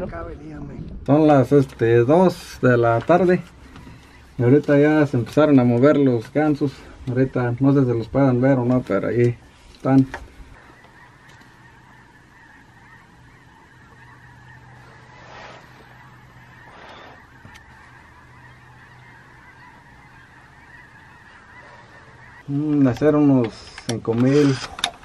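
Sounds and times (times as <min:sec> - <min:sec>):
distant flock of geese honking: 0:01.1 - 0:25.0.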